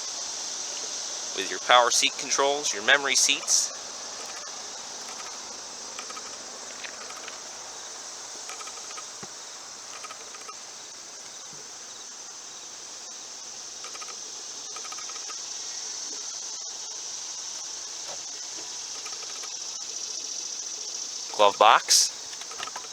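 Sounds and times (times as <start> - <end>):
insects hissing: 0.0 - 22.9
insects ticking chirps: 0.0 - 22.9.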